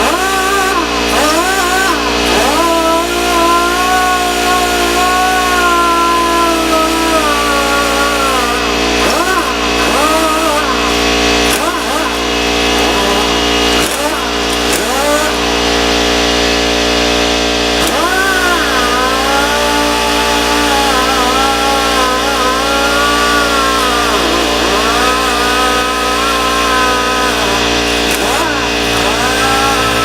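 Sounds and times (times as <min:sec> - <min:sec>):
motor running: 0:00.0 - 0:30.0
steady hum: 0:00.0 - 0:30.0.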